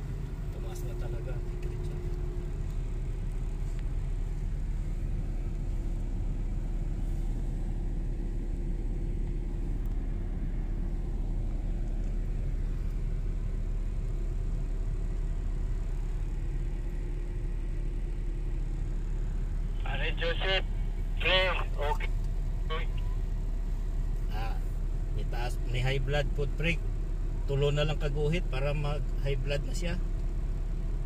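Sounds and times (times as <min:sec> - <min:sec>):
car engine and road rumble: 0:00.0 - 0:31.0
faint steady hum: 0:00.0 - 0:31.0.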